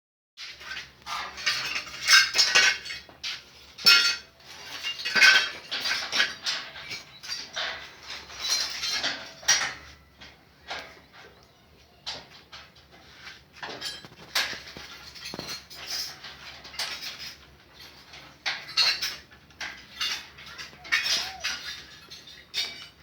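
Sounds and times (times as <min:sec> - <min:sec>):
metal parts clinking and clanking: 0:00.5 - 0:11.3, 0:12.0 - 0:23.0.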